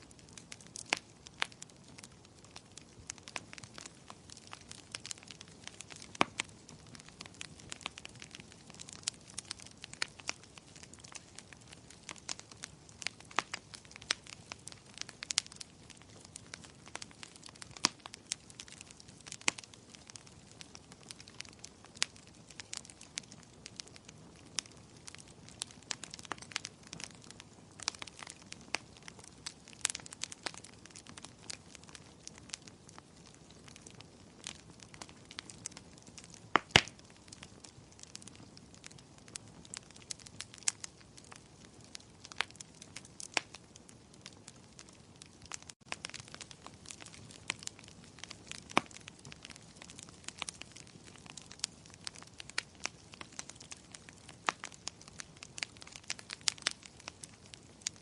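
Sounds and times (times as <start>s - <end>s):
soft hiss of flames: 0.0s - 58.0s
wood fire crackling and popping: 0.0s - 58.0s.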